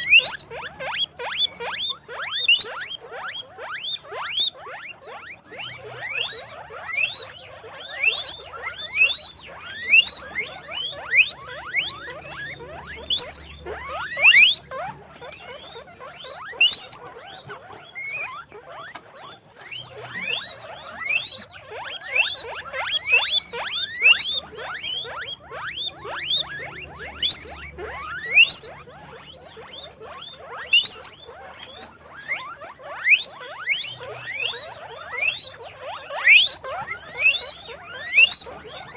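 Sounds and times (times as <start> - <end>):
guinea pigs wheeking: 0.0 - 38.9.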